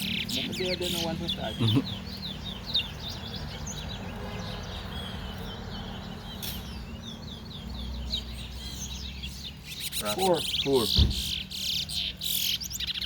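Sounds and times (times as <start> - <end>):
finches twittering: 0.0 - 13.0.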